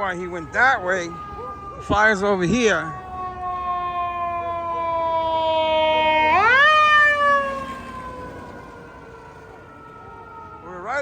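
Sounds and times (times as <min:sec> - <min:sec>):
mechanical siren wailing: 0:00.0 - 0:11.0.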